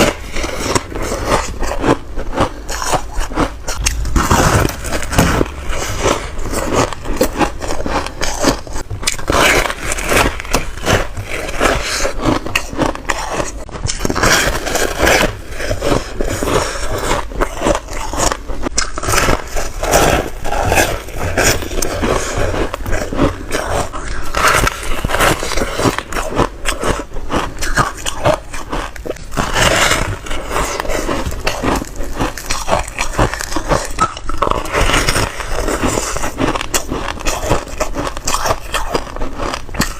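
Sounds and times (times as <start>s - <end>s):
ice crunching when bitten: 0.0s - 39.9s.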